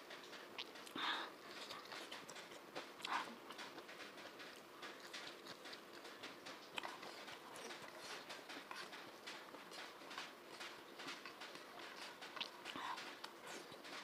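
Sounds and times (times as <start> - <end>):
person chewing with wet smacks: 0.1 - 14.0.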